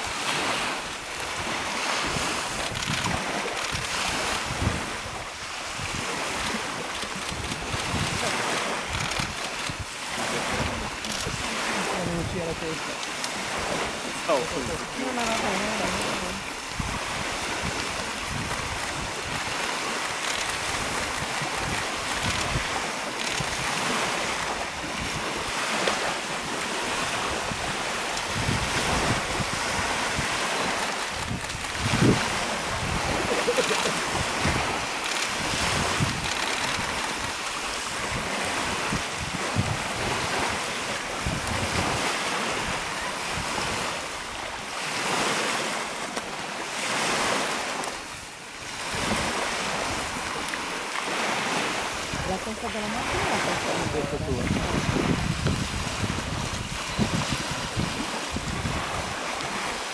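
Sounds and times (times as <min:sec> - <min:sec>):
creek water rushing: 0:00.0 - 0:59.9
wind noise on microphone: 0:00.0 - 0:59.9.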